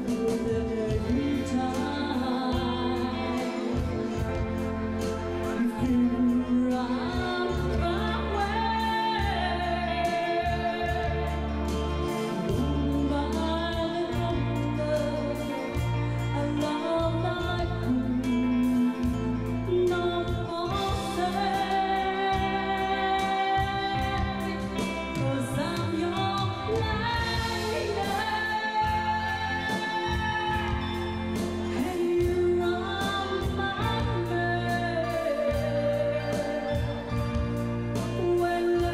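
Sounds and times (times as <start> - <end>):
band with steady bass: 0.0 - 38.9
woman singing a ballad: 0.0 - 38.9.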